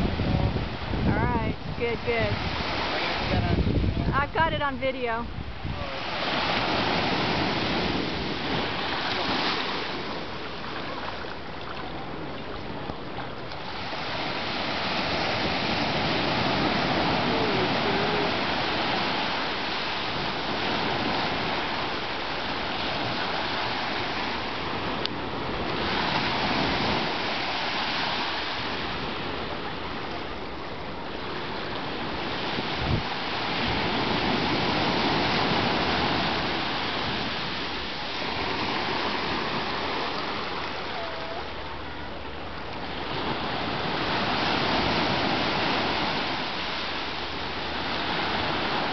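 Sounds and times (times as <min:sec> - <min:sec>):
ocean surf breaking: 0:00.0 - 0:48.9.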